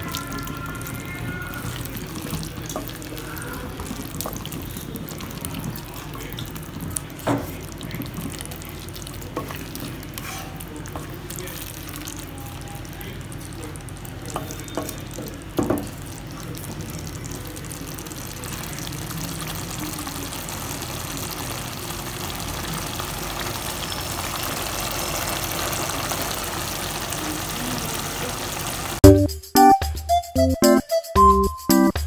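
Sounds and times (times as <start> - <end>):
curry sizzling and bubbling: 0.0 - 29.1.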